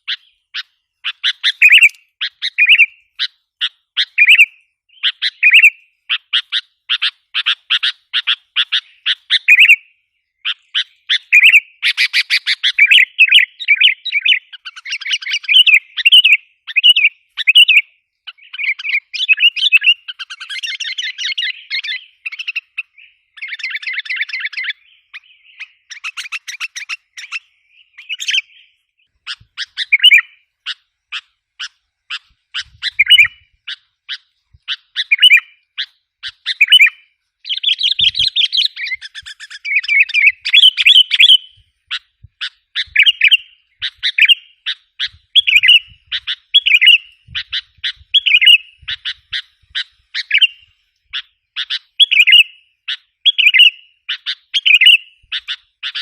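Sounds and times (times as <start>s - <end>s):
bulbul chirping: 1.0s - 3.0s, 10.5s - 56.0s.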